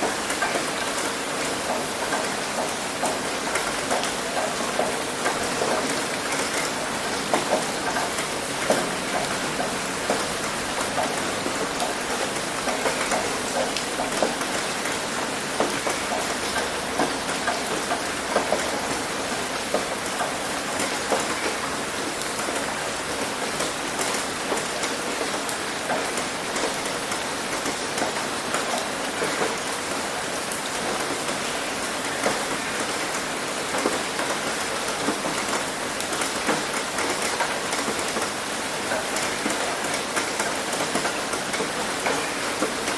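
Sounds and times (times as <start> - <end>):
heavy rain on a roof: 0.0 - 42.9.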